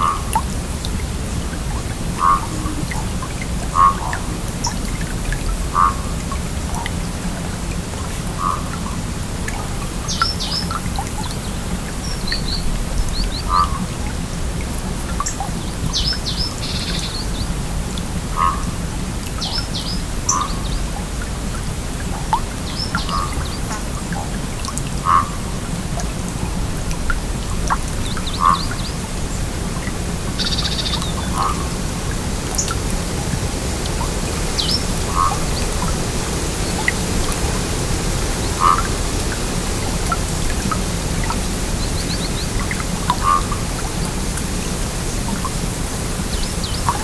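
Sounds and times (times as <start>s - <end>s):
water gurgling: 0.0s - 15.6s, 20.2s - 47.0s
stream flowing: 0.0s - 47.0s.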